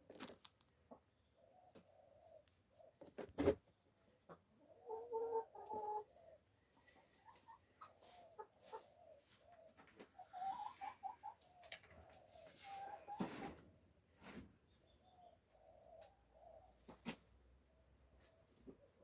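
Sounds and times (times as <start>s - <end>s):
hens clucking: 0.9s - 17.4s.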